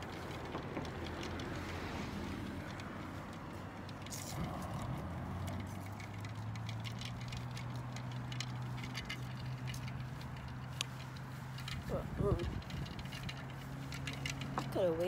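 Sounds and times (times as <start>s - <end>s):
light clicks and rattles: 0.0s - 15.0s
low motor hum: 0.0s - 15.0s.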